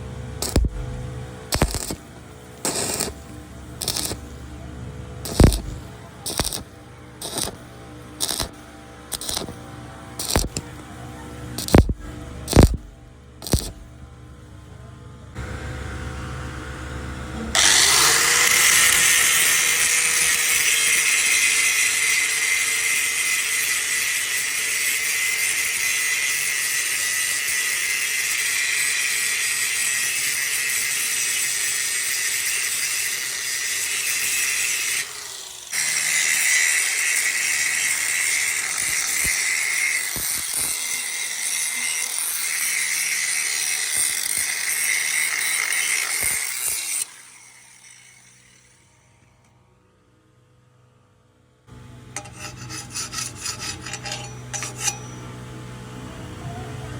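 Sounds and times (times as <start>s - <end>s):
welding arc hissing: 0.4s - 4.5s, 5.2s - 9.6s, 10.2s - 10.6s, 11.6s - 13.9s, 17.5s - 49.0s, 52.2s - 55.6s.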